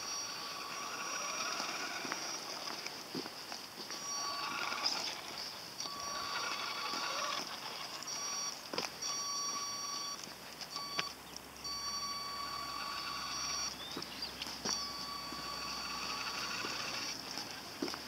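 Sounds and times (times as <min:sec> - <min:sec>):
electric motor whining: 0:00.0 - 0:02.9, 0:03.9 - 0:10.2, 0:10.8 - 0:13.8, 0:14.6 - 0:17.6.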